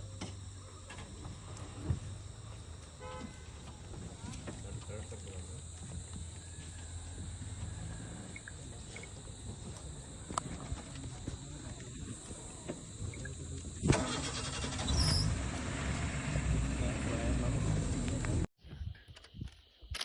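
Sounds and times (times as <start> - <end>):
vehicle engine rumbling: 0.0 - 18.5.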